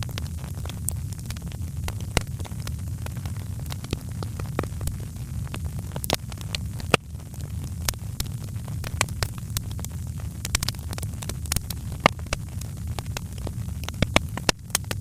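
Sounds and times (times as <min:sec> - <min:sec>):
low rumble of flames: 0:00.0 - 0:15.0
sharp pops of fire: 0:00.0 - 0:15.0
wood fire crackling: 0:00.0 - 0:15.0.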